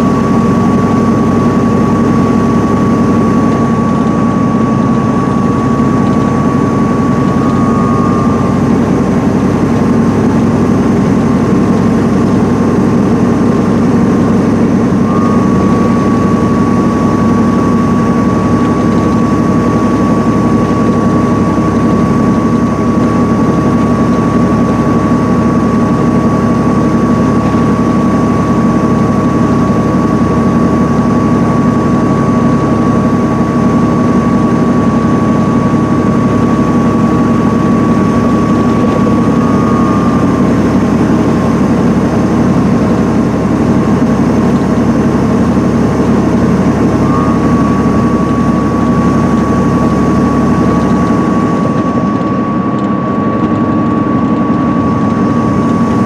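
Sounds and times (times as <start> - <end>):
coach engine and tyre rumble: 0.0 - 56.0
thin high whine: 0.0 - 56.0.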